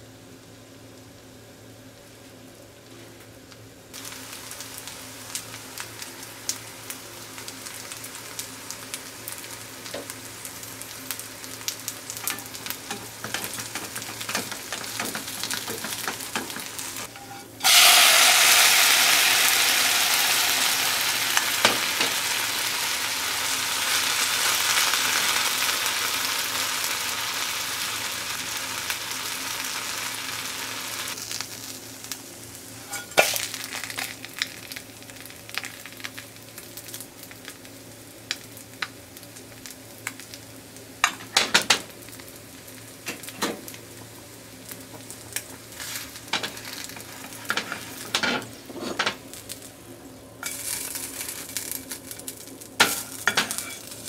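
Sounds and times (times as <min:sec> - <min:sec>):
pancake sizzling in a pan: 0:03.9 - 0:49.8, 0:50.4 - 0:54.0.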